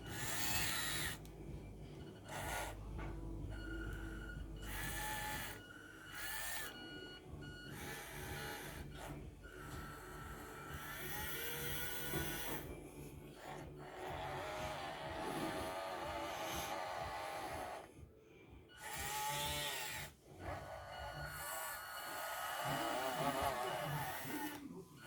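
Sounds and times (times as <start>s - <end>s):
small electric gear motors whining: 0.0s - 18.0s, 18.7s - 25.0s
steady low hum: 0.0s - 25.0s.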